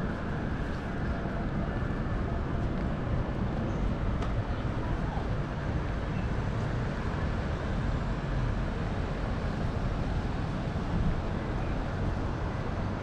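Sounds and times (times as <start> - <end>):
city background rumble: 0.0 - 13.0.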